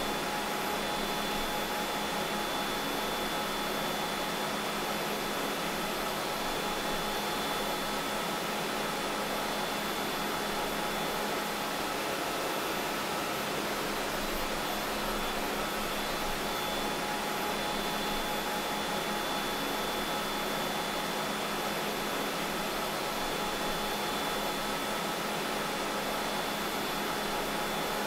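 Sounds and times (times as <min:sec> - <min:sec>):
ventilation and machinery hum: 0:00.0 - 0:28.0.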